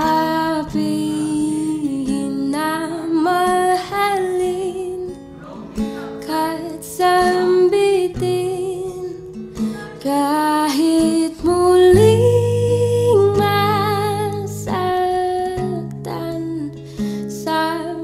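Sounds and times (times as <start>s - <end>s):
acoustic guitar ballad: 0.0s - 18.0s
person singing: 0.0s - 18.0s.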